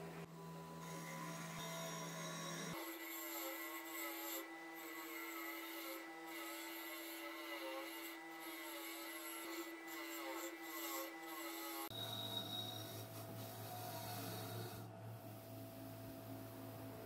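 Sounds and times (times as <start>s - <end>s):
bench motor humming: 0.2s - 14.9s.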